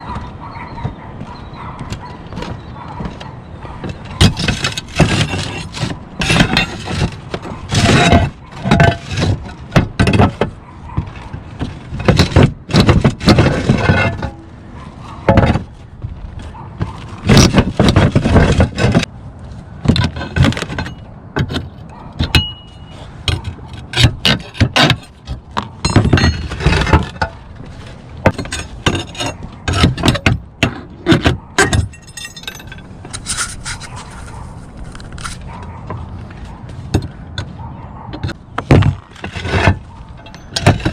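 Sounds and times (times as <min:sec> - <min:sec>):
roof tiles clinking and scraping: 0:03.8 - 0:37.5, 0:38.2 - 0:40.9.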